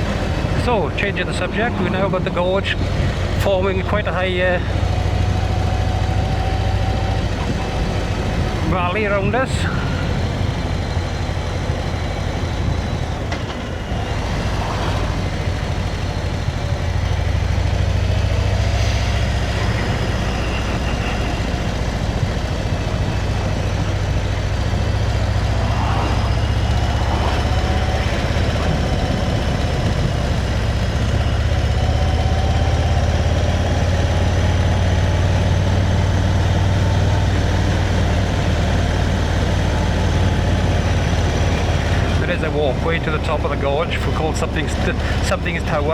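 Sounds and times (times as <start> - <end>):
motorcycle engine rumble: 0.0 - 45.9
wind: 0.0 - 45.9.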